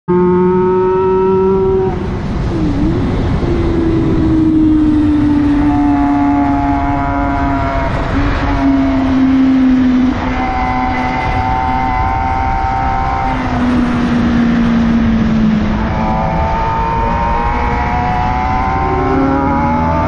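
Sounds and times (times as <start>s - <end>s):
racing motorcycle engine: 0.1s - 20.0s.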